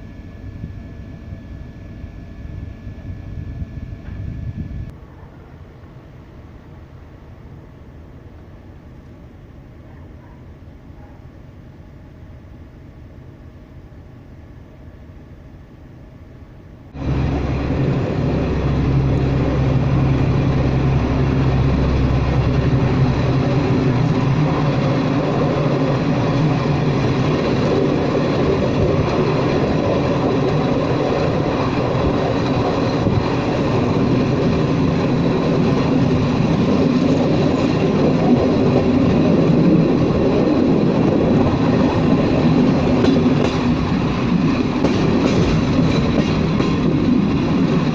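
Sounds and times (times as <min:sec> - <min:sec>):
diesel train engine humming: 0:00.0 - 0:47.9
train running noise: 0:00.0 - 0:47.9.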